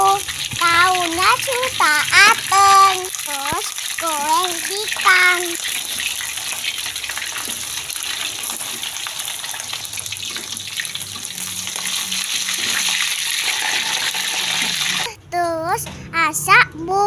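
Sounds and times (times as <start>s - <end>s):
fish frying in hot oil: 0.0s - 15.1s.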